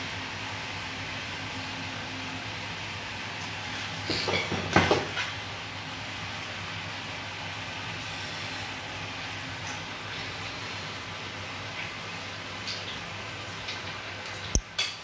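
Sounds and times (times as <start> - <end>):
kitchen appliances humming: 0.0 - 15.0.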